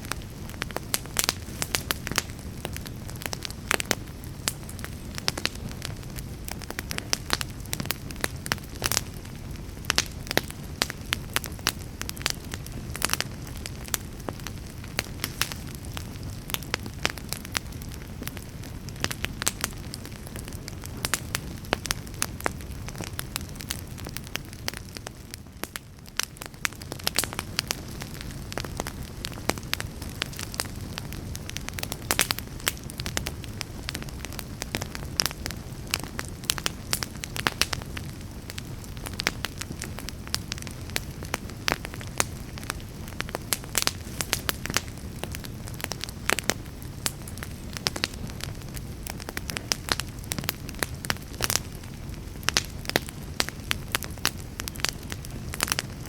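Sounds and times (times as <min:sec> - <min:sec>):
fire crackling in fireplace: 0:00.0 - 0:56.0.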